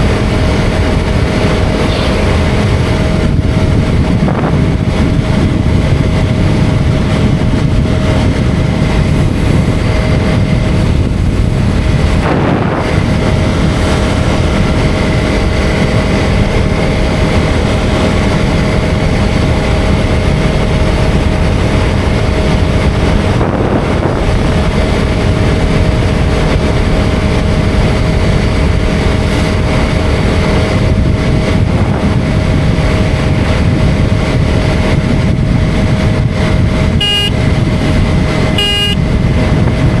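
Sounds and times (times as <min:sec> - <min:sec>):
motorcycle engine running: 0:00.0 - 0:40.0
wind buffeting microphone: 0:00.0 - 0:40.0.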